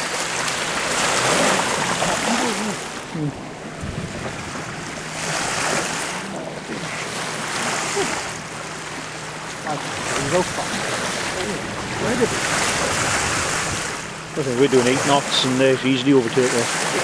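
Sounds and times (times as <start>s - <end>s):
water rushing past boat hull: 0.0s - 17.0s
wind buffeting microphone: 0.7s - 15.5s.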